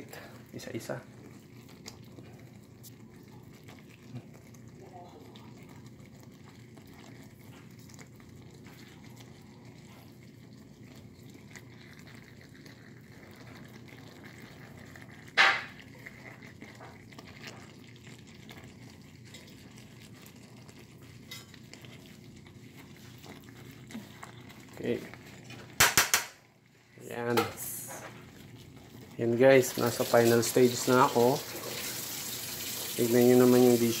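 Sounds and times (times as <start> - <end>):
sauce bubbling in a skillet: 0.0 - 34.0.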